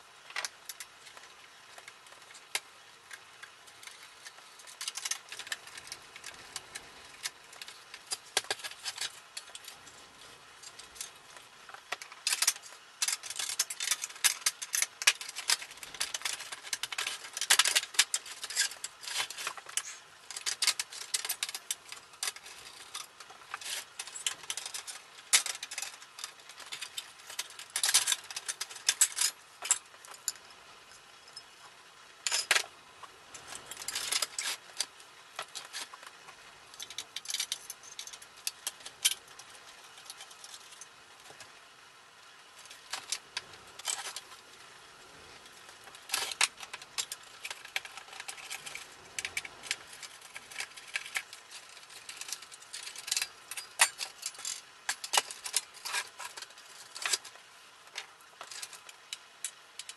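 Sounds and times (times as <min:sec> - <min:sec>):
metal and plastic parts clinking: 0:00.2 - 0:10.0, 0:10.6 - 0:41.5, 0:42.4 - 0:44.6, 0:45.2 - 0:59.9.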